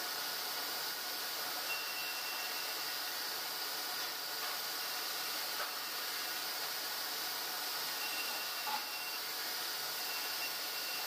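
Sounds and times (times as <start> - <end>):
sawmill machinery running: 0.0 - 11.0
faint high whine: 1.4 - 11.0.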